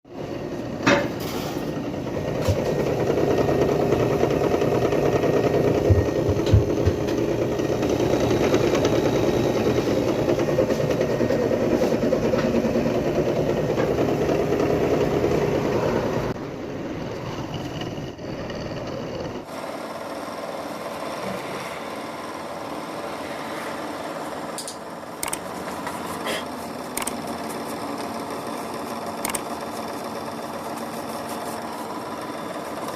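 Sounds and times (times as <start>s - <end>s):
air conditioner fan running: 0.1s - 32.9s.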